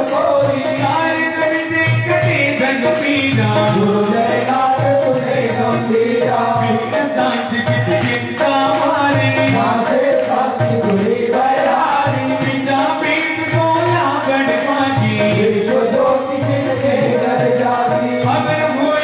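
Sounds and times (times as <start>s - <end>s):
steady percussion beat: 0.0s - 19.0s.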